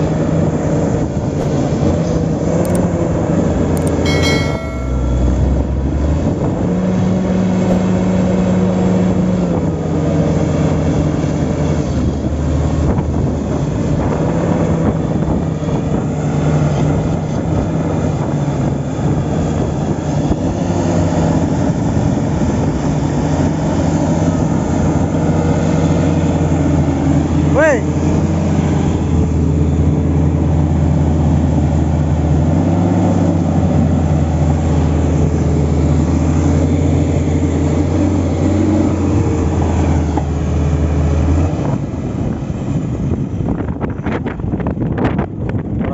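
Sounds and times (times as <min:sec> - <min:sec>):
heavy diesel engines straining: 0:00.0 - 0:45.9.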